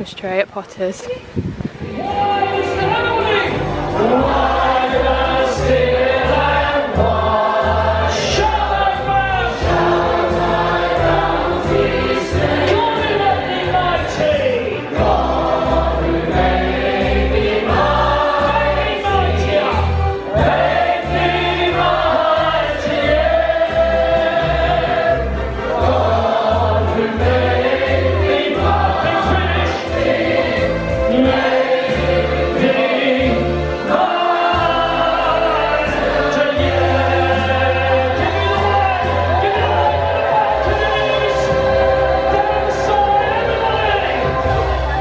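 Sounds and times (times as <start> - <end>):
group of singers with band: 1.9 - 45.0.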